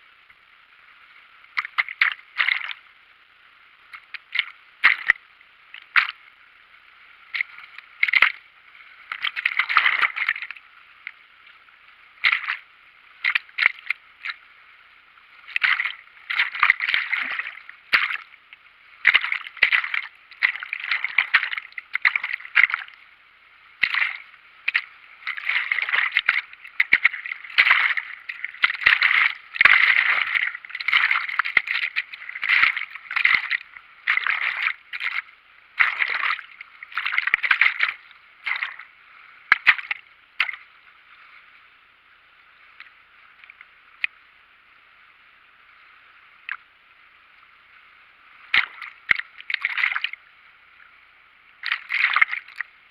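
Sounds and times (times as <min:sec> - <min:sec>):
river water sloshing and gurgling: 0:01.4 - 0:03.0, 0:03.8 - 0:41.6, 0:48.1 - 0:52.9.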